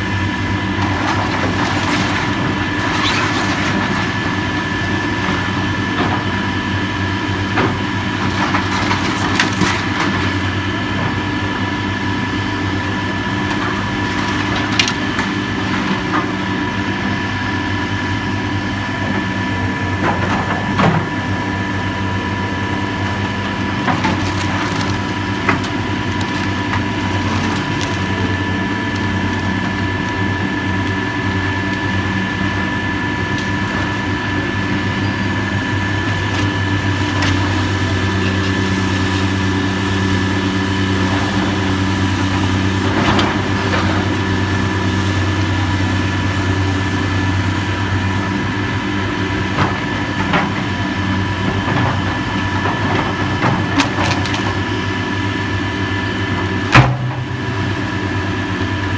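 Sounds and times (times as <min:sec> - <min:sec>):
machinery engine whining: 0:00.0 - 0:58.9.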